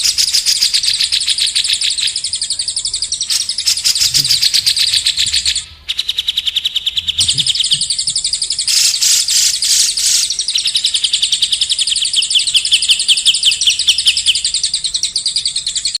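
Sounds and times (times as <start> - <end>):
songbird trilling: 0.0 - 16.0.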